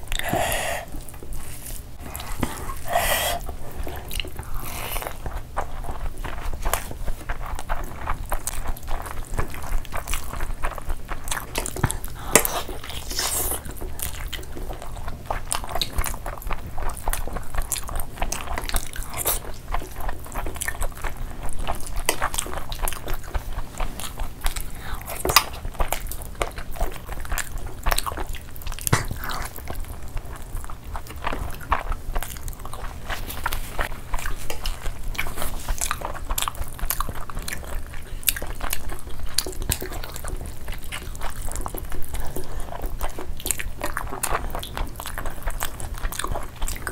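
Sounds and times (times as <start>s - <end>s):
wet chewing: 0.0s - 46.9s.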